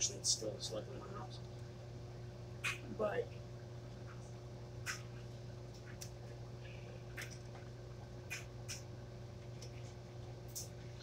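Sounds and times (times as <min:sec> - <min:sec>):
low kitchen hum: 0:00.0 - 0:11.0.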